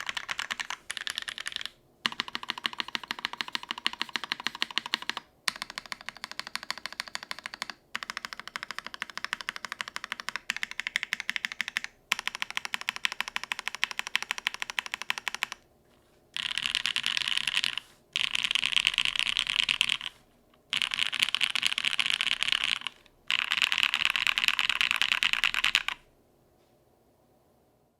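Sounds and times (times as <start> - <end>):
typing on mechanical keyboard: 0.0 - 15.6, 16.4 - 26.1.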